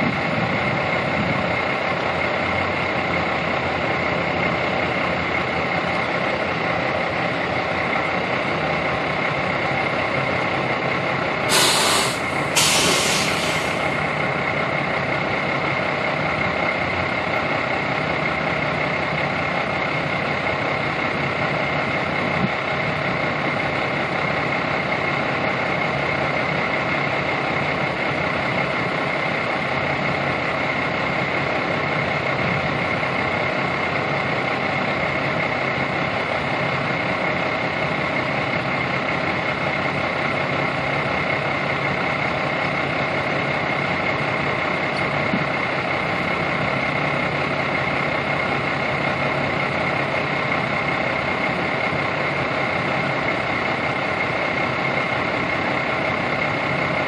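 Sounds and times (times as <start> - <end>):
idling vehicle engine drone: 0.0 - 57.0.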